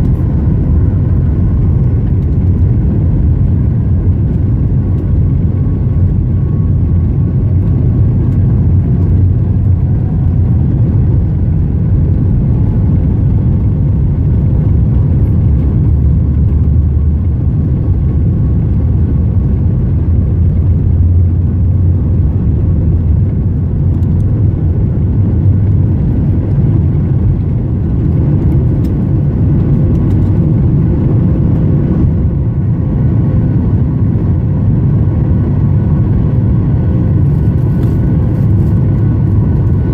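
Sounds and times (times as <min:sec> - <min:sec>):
faint engine whine: 0:00.0 - 0:39.9
jet engine low rumble: 0:00.0 - 0:39.9.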